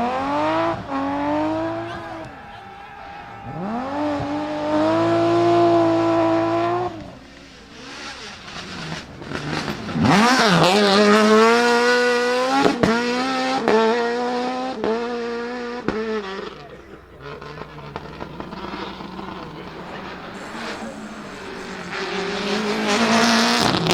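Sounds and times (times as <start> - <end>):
rally car engines revving: 0.0 - 23.9.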